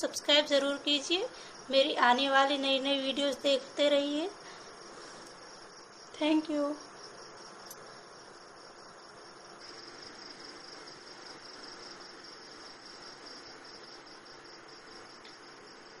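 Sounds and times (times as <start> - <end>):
high-pitched insect trill: 0.0 - 16.0
low background hiss: 0.0 - 16.0.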